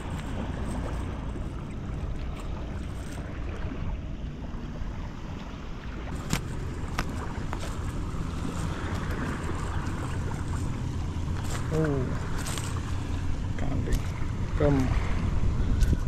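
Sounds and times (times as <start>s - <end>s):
sea waves against rocks: 0.0s - 16.0s
wind buffeting microphone: 0.0s - 16.0s.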